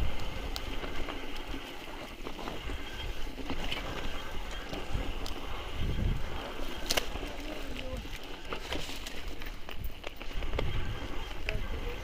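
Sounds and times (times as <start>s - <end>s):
wind on microphone: 0.0s - 1.6s, 2.3s - 12.0s
bike clicks and rattles: 0.0s - 12.0s
tyres running over rough ground: 0.0s - 12.0s.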